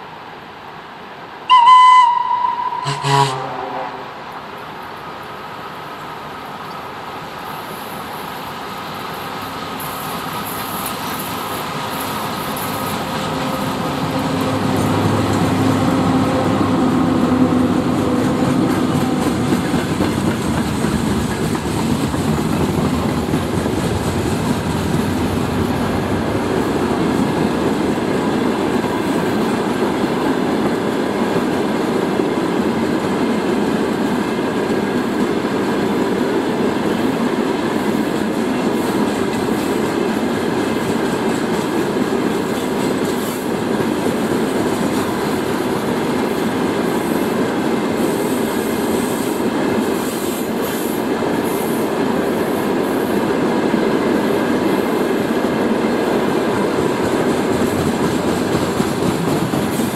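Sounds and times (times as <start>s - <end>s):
electric locomotive humming: 1.5s - 59.9s
steel wheels rolling on rails: 7.5s - 59.9s.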